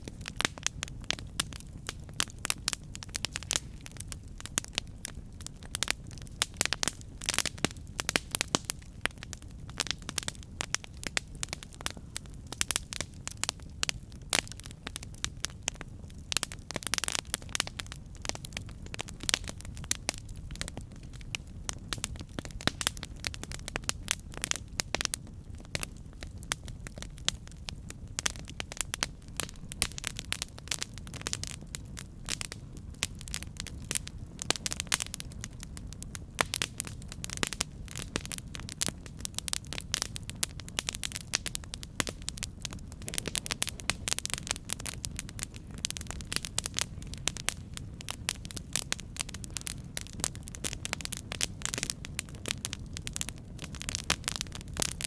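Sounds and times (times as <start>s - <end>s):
campfire low rumble: 0.0s - 55.0s
wood crackling and popping: 0.0s - 55.0s.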